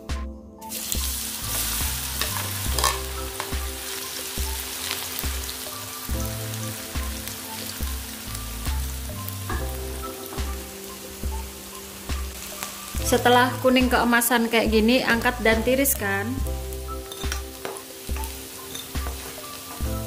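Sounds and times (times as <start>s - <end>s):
quiet background music: 0.0s - 20.0s
food sizzling in hot oil: 0.6s - 20.0s.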